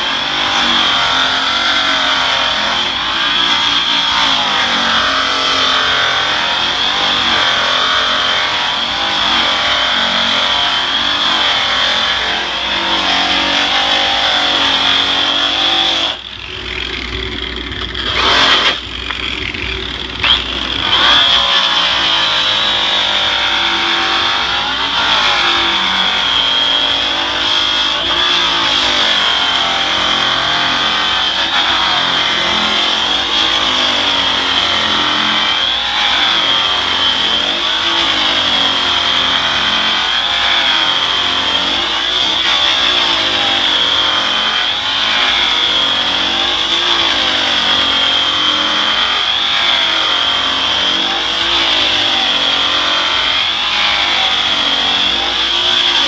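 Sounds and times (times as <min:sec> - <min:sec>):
rotary polisher whining: 0:00.0 - 0:56.0.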